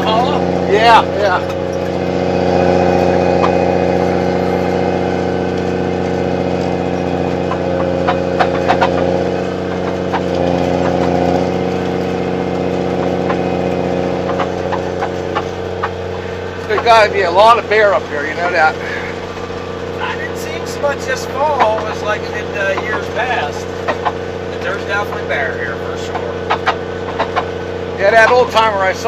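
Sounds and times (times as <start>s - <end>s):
snowcat engine running: 0.0s - 29.0s.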